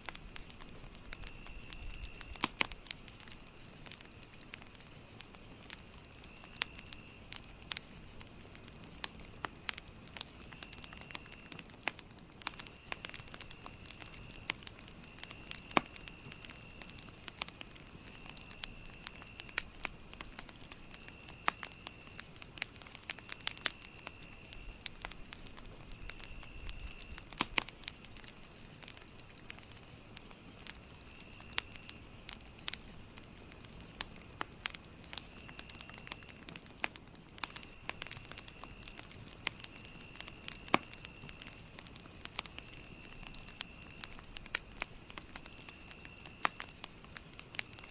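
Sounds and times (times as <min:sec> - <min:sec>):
campfire crackling and popping: 0:00.0 - 0:47.9
insect chirping: 0:00.0 - 0:47.9.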